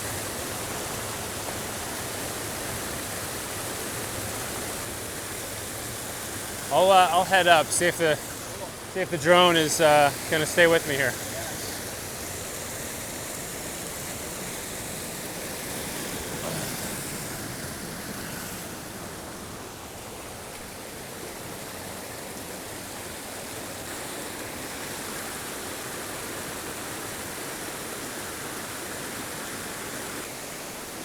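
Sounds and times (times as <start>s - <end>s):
creek water rushing: 0.0s - 31.0s.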